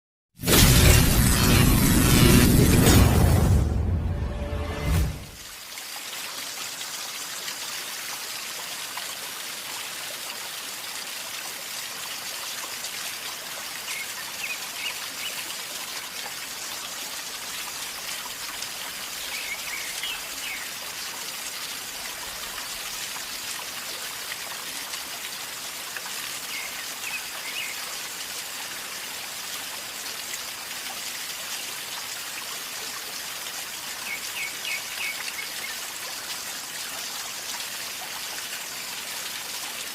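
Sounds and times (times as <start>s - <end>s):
river water gurgling: 5.0s - 39.9s.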